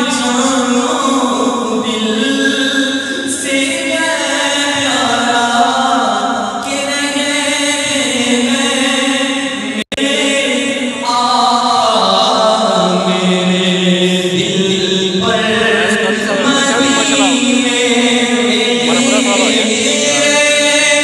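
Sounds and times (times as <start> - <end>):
man singing through a microphone: 0.0 - 21.0.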